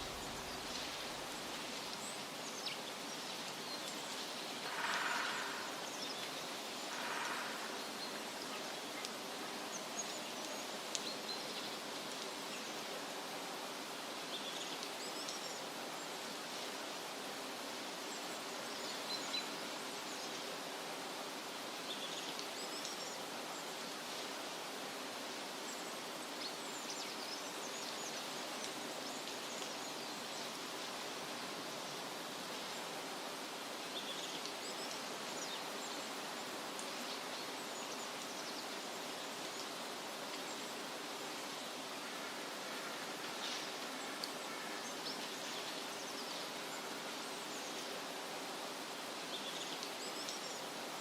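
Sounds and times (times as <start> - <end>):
steady rushing hiss: 0.0 - 51.0.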